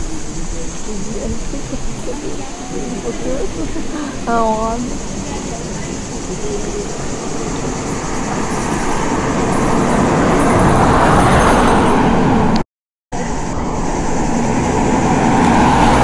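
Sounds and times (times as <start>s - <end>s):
vehicles passing close by: 0.0s - 12.6s, 13.2s - 16.0s.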